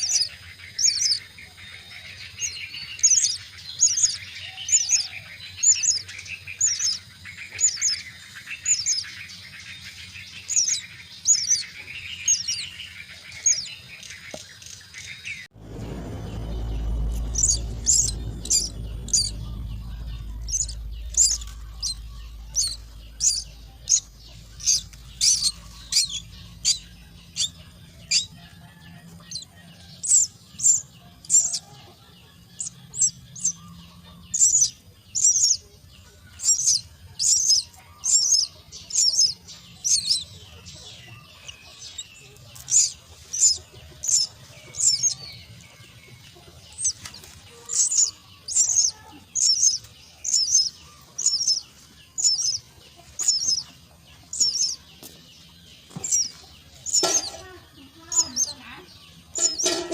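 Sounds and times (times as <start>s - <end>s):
bird chicks begging calls: 0.0s - 59.9s.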